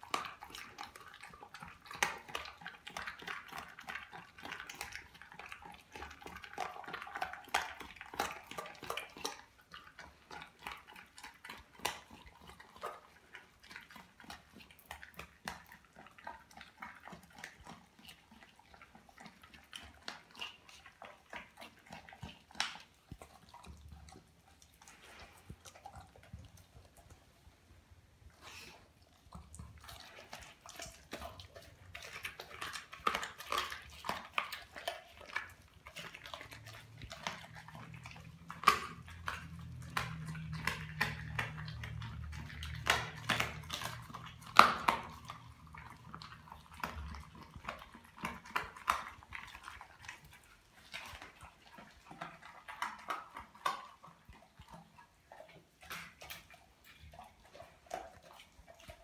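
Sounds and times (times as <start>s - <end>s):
dog chewing raw fish: 0.0s - 59.0s.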